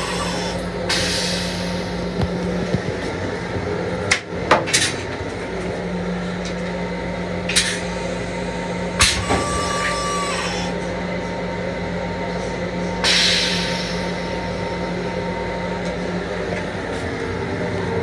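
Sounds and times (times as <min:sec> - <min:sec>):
electric railcar hum: 0:00.0 - 0:18.0.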